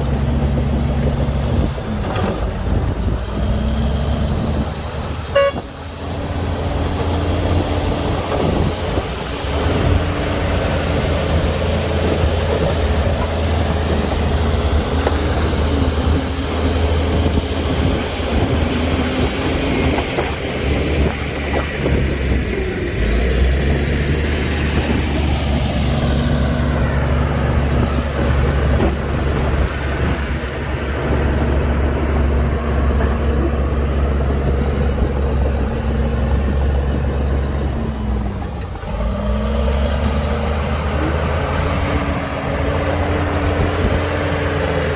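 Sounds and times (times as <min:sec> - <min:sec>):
bulldozer diesel engine droning: 0:00.0 - 0:44.9.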